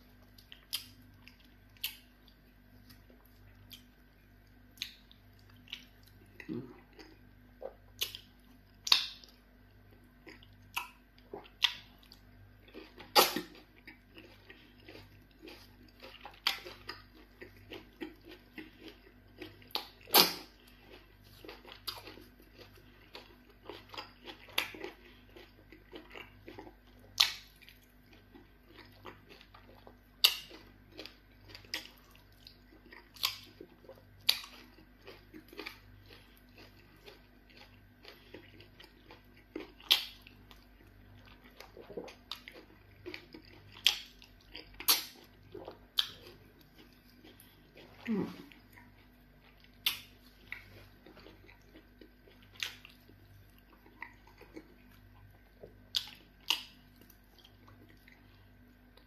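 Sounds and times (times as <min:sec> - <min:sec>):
faint steady hum: 0:00.0 - 0:59.0
wet chewing and mouth smacks: 0:00.1 - 0:59.0.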